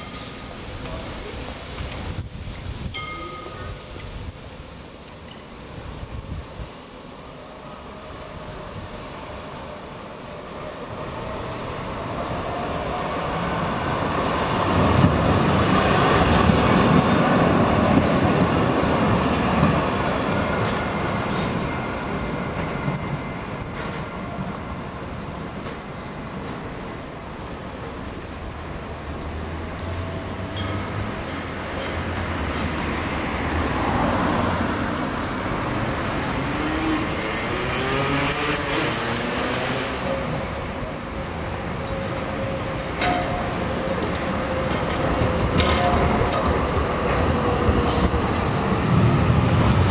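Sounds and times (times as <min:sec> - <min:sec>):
street traffic noise: 0:00.0 - 0:49.9
tram running on rails: 0:00.0 - 0:49.9.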